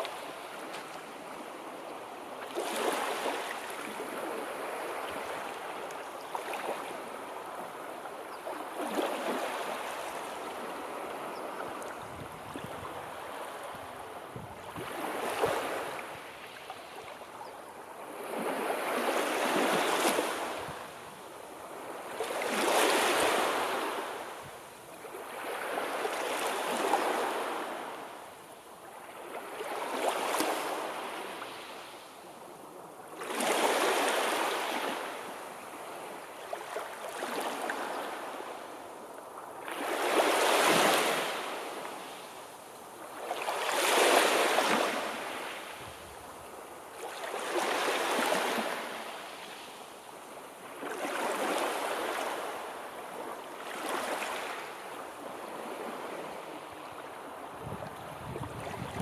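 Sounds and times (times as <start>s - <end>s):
sea waves breaking on shore: 0.0s - 32.2s, 32.9s - 59.0s.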